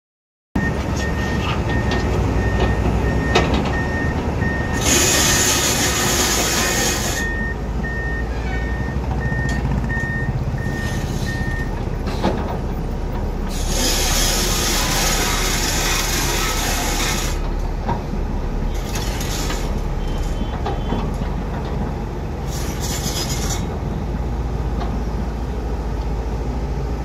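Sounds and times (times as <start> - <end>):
excavator diesel engine under load: 0.6 - 27.0.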